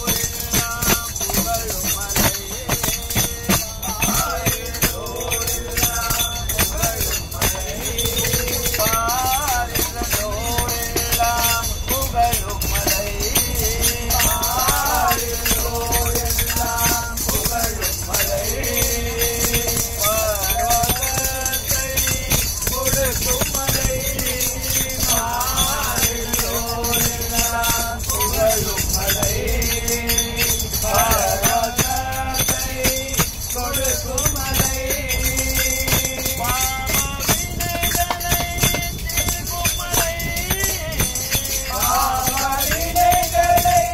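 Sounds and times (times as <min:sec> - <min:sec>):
group singing devotional song: 0:00.0 - 0:43.9
jingling hand percussion: 0:00.0 - 0:43.9.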